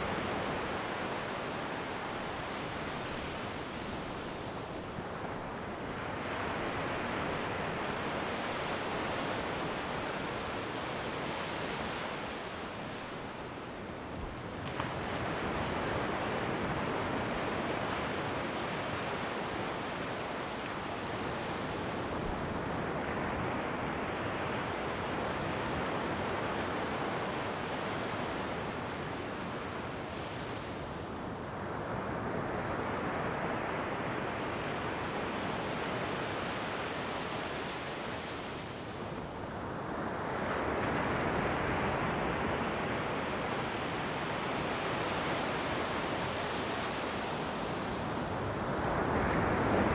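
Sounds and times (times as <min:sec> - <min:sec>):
sea waves breaking on shore: 0:00.0 - 0:49.9.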